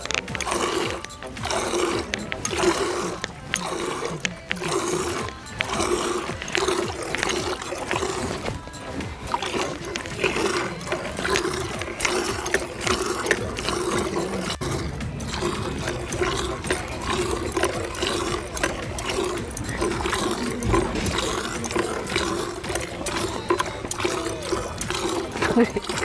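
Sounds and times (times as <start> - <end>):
milk squirting into plastic bucket: 0.0 - 26.0.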